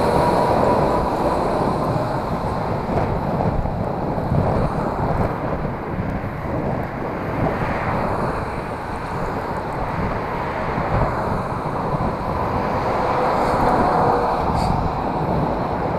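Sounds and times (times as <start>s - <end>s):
road traffic noise: 0.0s - 15.9s
wind on microphone: 0.0s - 15.9s.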